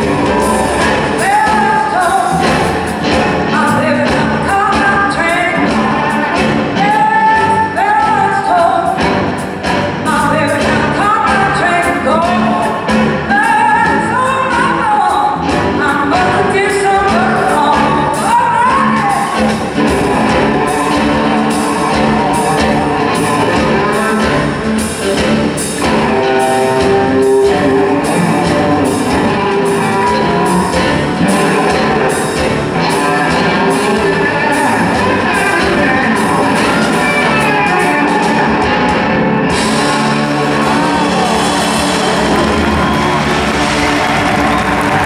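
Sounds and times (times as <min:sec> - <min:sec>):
electric blues band playing: 0:00.0 - 0:45.0
person singing: 0:00.0 - 0:45.0.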